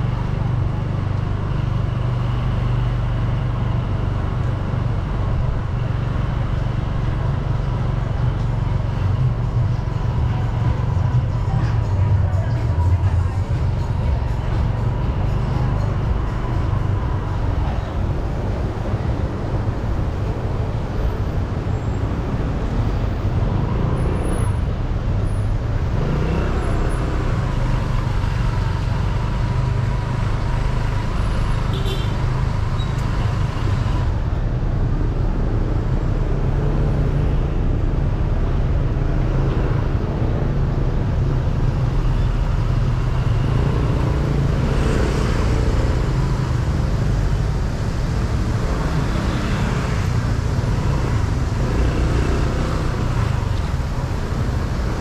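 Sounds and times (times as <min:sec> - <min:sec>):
passing vehicles engine rumble: 0:00.0 - 0:55.0
road noise: 0:00.0 - 0:55.0.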